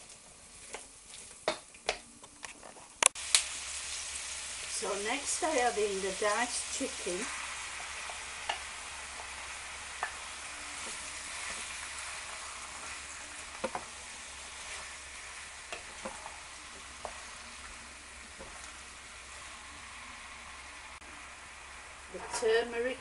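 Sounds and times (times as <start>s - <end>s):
chicken and onions sizzling in oil: 3.1s - 23.0s.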